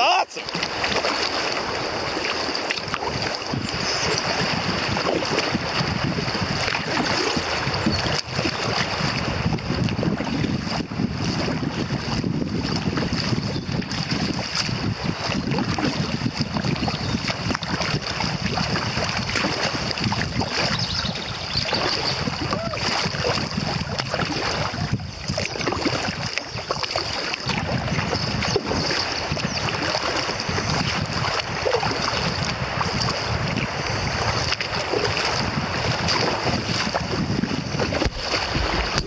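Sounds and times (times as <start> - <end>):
river water lapping against hull: 0.0 - 39.0
wind buffeting microphone: 0.0 - 39.0.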